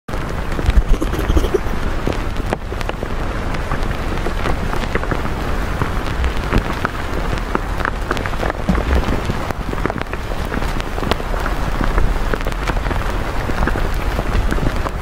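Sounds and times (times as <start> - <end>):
steady rain falling: 0.1 - 15.0.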